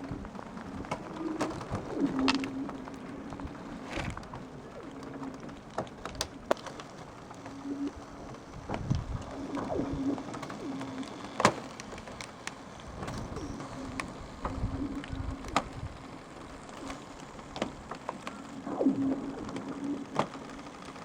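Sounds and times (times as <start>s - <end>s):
lake ice cracking and pinging: 0.0s - 21.0s
low hum: 0.0s - 21.0s.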